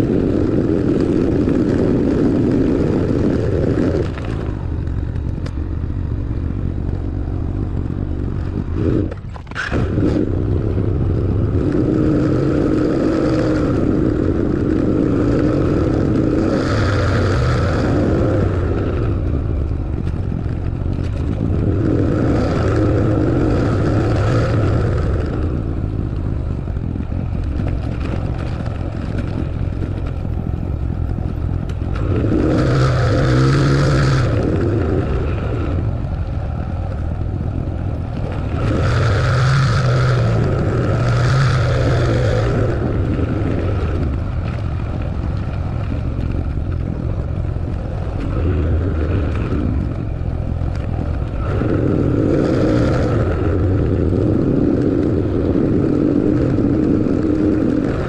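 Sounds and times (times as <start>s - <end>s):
road noise: 0.0s - 58.0s
vehicle engine hum: 0.0s - 58.0s.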